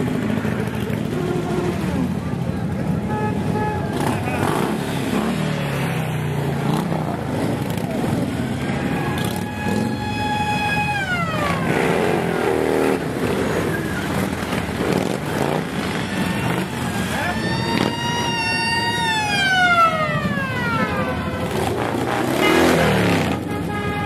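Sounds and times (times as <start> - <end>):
motorcycle engines passing: 0.0 - 24.0.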